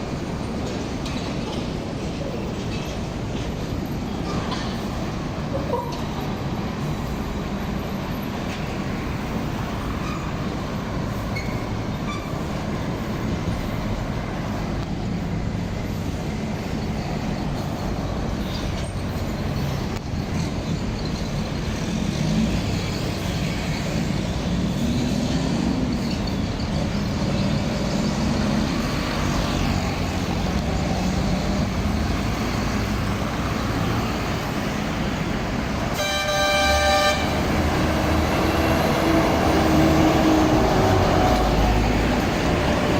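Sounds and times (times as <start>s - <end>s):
truck engines rumbling: 0.0s - 42.9s.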